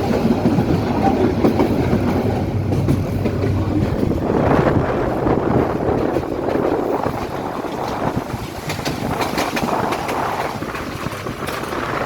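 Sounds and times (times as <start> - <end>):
sharp clicks of train wheels: 0.0 - 12.0
train rumbling on rails: 0.0 - 12.0
wind buffeting microphone: 0.0 - 12.0.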